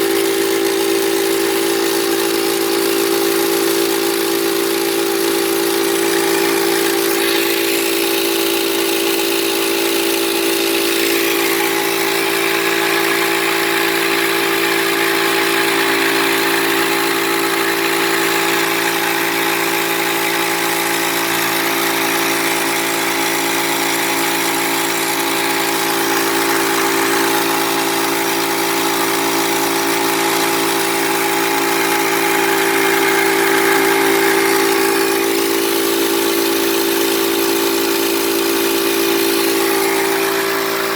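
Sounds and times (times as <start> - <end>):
air compressor humming and hissing: 0.0 - 40.9.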